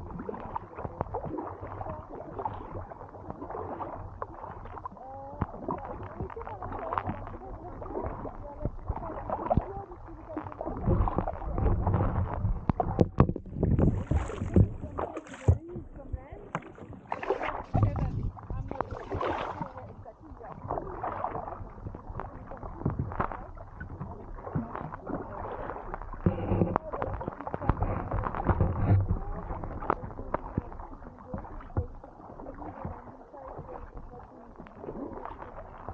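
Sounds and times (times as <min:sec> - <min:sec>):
low rumble: 0:00.0 - 0:35.9
paddle dipping and dripping: 0:00.0 - 0:35.9
water gurgling around hull: 0:00.0 - 0:35.9.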